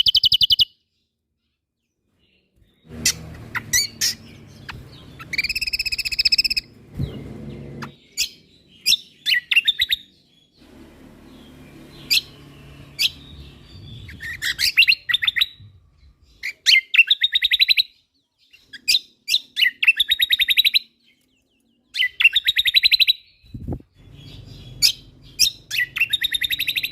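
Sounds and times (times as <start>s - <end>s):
songbird whistling and trilling: 0.0s - 0.8s, 3.0s - 10.1s, 12.0s - 21.0s, 21.9s - 26.9s.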